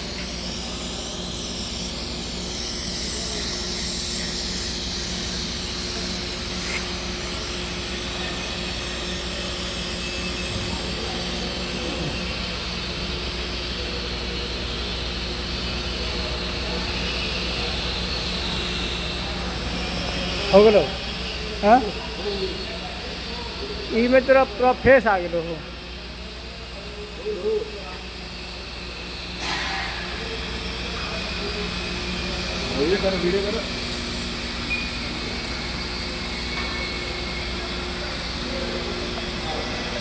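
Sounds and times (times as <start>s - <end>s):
arc welding hiss: 0.0s - 40.0s
low welding hum: 0.0s - 40.0s.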